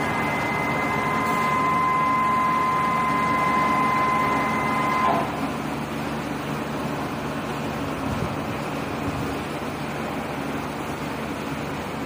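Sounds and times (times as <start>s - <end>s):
high machine whine: 0.0s - 11.7s
lathe mechanical hum: 0.0s - 12.0s.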